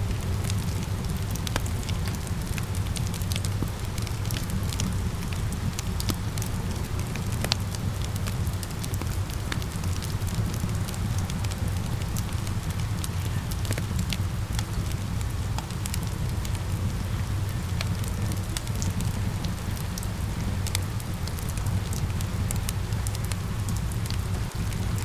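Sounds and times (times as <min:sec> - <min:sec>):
falling rain: 0:00.0 - 0:25.0
fire crackling and popping: 0:00.0 - 0:25.0.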